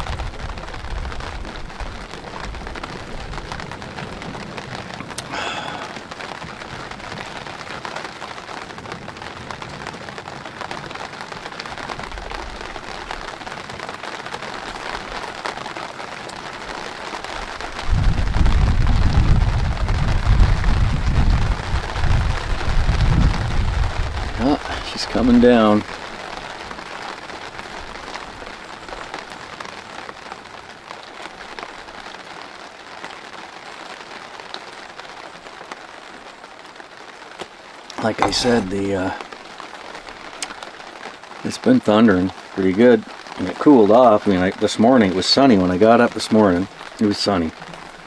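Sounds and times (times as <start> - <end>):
rain on an awning: 0.0 - 48.0.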